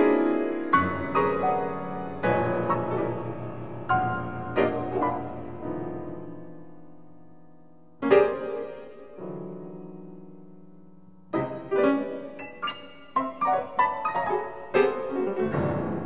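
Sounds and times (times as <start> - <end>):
atonal solo piano: 0.0 - 16.0.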